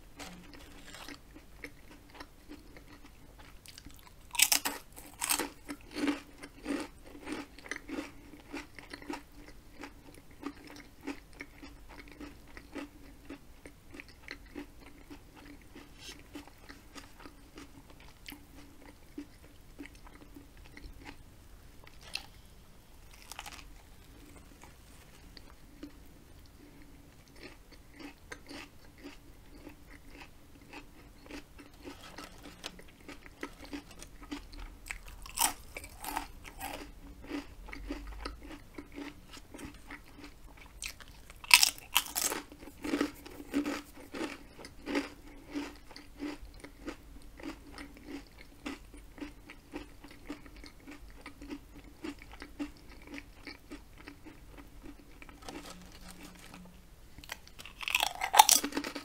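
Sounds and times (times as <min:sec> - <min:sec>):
potato chip crunching: 0:00.1 - 0:21.2, 0:21.8 - 0:22.4, 0:23.0 - 0:26.0, 0:27.3 - 0:59.0
chewing: 0:00.2 - 0:21.2, 0:21.8 - 0:59.0.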